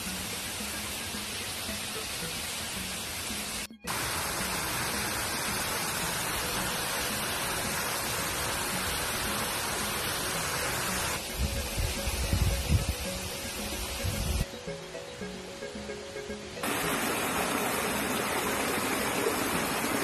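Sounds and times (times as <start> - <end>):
waterfall splashing over rocks: 0.0 - 14.4, 16.6 - 20.0.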